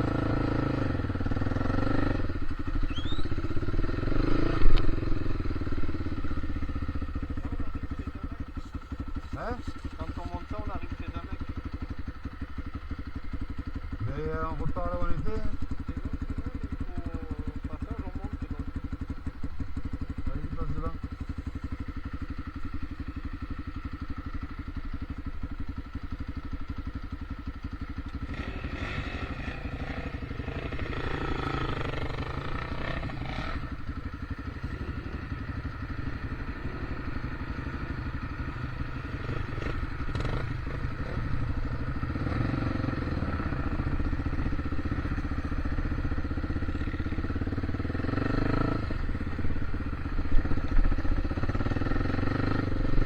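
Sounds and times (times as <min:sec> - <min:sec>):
off-road motorbike engine: 0:00.0 - 0:53.0.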